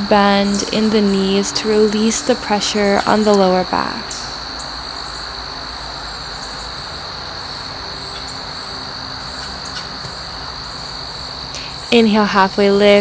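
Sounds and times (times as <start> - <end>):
insects trilling: 0.0 - 13.0
soft outdoor background hiss: 0.0 - 13.0.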